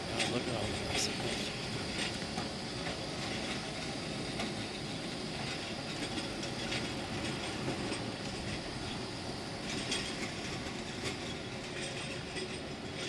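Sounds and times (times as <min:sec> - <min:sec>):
tram rolling on rails: 0:00.0 - 0:13.0.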